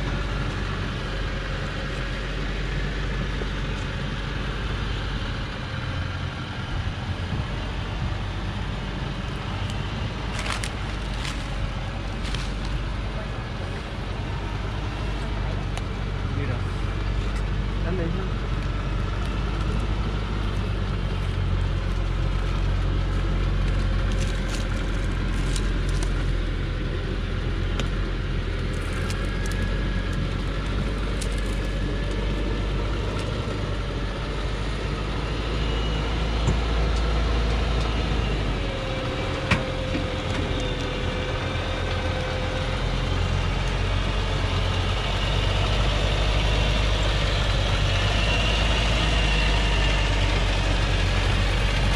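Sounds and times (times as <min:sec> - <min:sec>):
truck engine low drone: 0:00.0 - 0:51.9.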